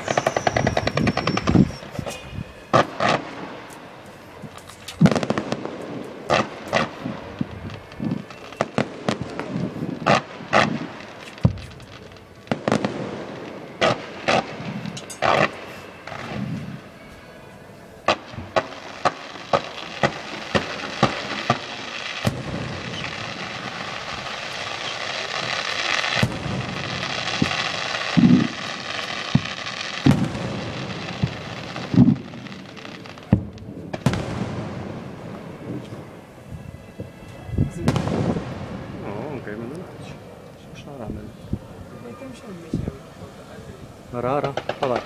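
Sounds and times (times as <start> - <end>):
heavy firework booms: 0.0 - 3.6, 5.0 - 16.9, 18.0 - 40.4
firework bangs: 0.0 - 45.0
fireworks crackling: 0.0 - 45.0.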